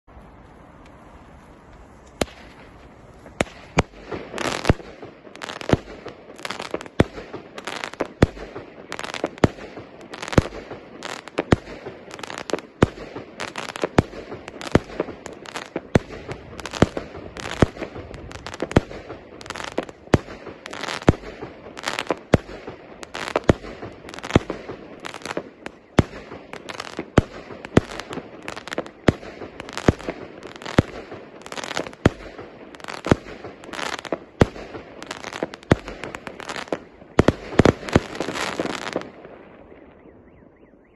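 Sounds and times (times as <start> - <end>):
fireworks crackle and hiss: 0.1 - 39.6.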